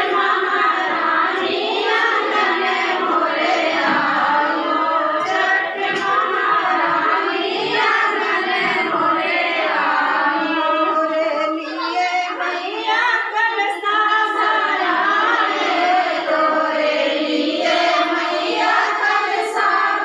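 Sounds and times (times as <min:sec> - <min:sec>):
women singing in chorus: 0:00.0 - 0:20.0.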